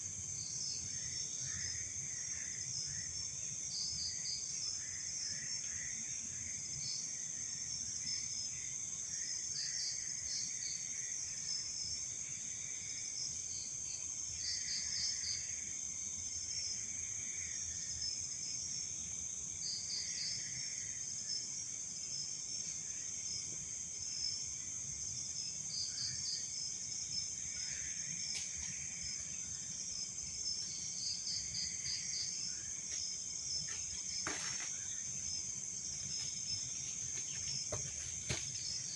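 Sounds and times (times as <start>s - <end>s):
crickets trilling: 0.2s - 38.9s.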